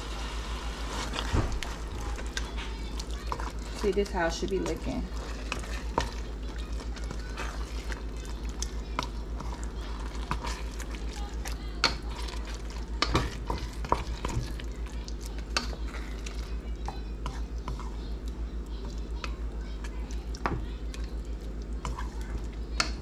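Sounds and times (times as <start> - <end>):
steady low hum: 0.0 - 23.0
wooden spoon stirring thick sauce: 0.0 - 23.0.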